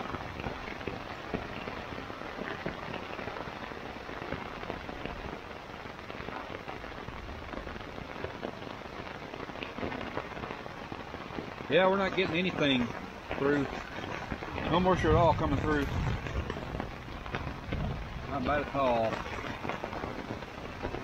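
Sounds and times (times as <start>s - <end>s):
rain pattering on a tent: 0.0s - 21.0s.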